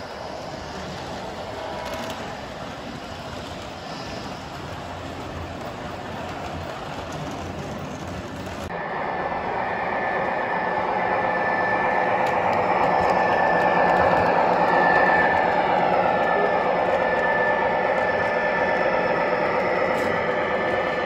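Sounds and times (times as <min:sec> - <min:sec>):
close train whine: 0:00.0 - 0:21.0
model trains rolling hum: 0:00.0 - 0:21.0.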